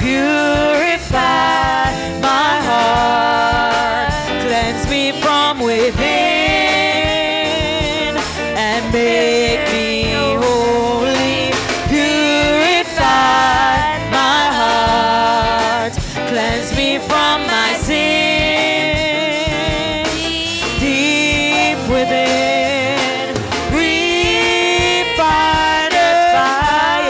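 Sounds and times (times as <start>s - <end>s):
drums and band accompaniment: 0.0s - 27.0s
women singing gospel: 0.0s - 27.0s.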